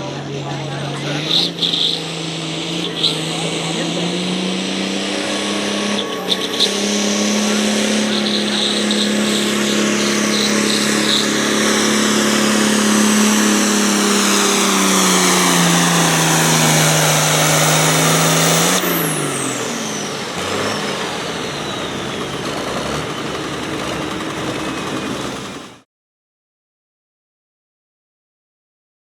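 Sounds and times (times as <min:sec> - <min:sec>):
engine at full throttle under load: 0:00.0 - 0:25.8.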